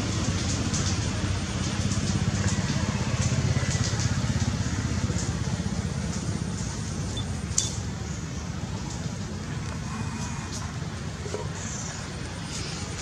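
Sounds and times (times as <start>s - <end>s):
engine idling low rumble: 0.0s - 13.0s.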